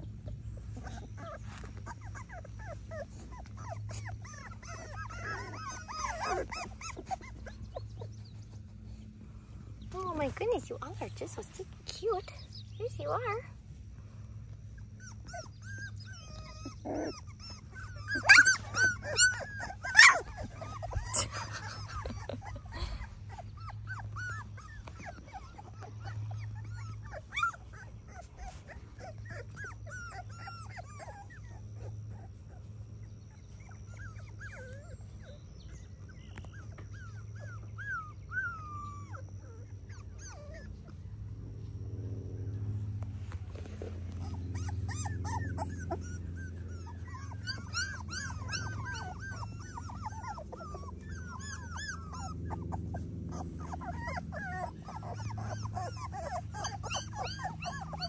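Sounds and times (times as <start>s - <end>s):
puppies whimpering and squeaking: 0.0s - 58.0s
puppies yelping loudly: 0.0s - 58.0s.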